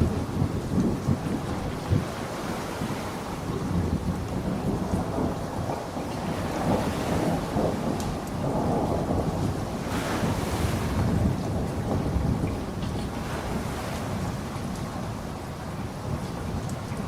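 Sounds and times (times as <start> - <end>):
rumble of thunder: 0.0 - 17.0
steady rain: 0.0 - 17.0.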